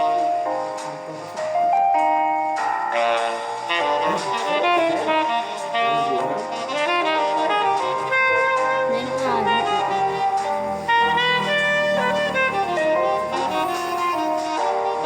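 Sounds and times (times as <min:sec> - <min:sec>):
saxophone-led jazz tune: 0:00.0 - 0:15.0.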